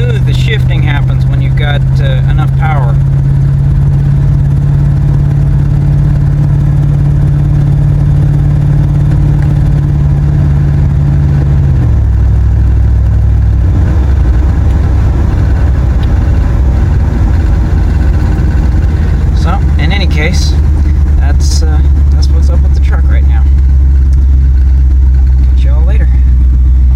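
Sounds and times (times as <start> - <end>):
truck engine droning: 0.0 - 26.9.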